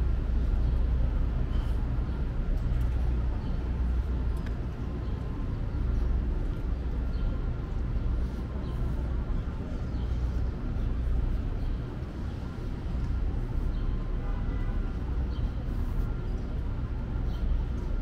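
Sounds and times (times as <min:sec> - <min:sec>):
low street rumble: 0:00.0 - 0:18.0.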